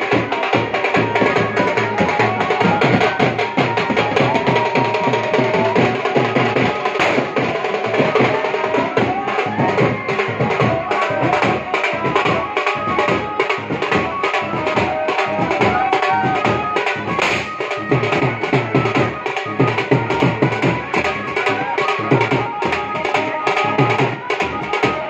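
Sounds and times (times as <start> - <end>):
hand drums fast beat: 0.0 - 25.0
wavering melodic line: 0.0 - 25.0.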